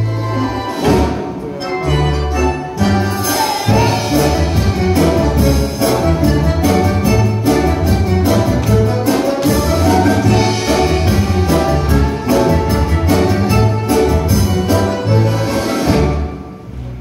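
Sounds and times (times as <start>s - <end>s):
orchestral dance music: 0.0s - 17.0s.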